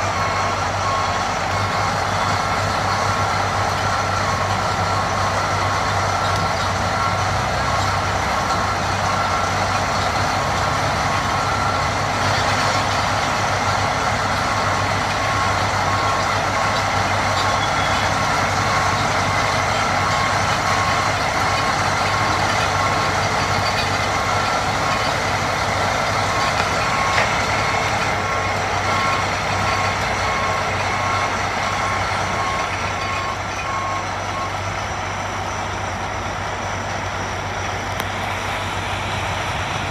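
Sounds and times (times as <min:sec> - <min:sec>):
reversing alarm beeping: 0:00.0 - 0:38.8
diesel engines running: 0:00.0 - 0:39.9.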